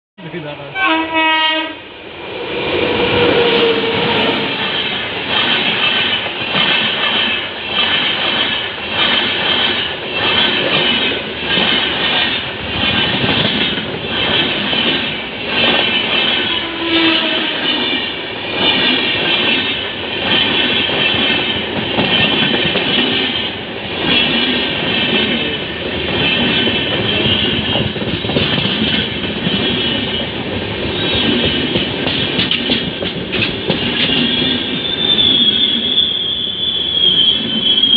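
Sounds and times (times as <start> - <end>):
train wheels clattering on rails: 2.9 - 37.9.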